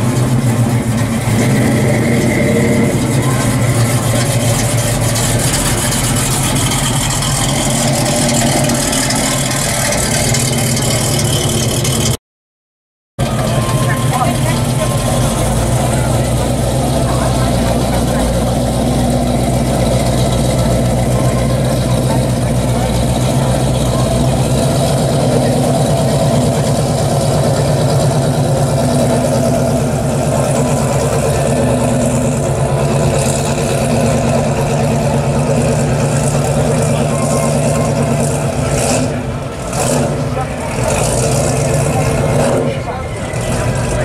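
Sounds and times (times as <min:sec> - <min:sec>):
car engine idling: 0:00.0 - 0:12.2, 0:13.2 - 0:44.0.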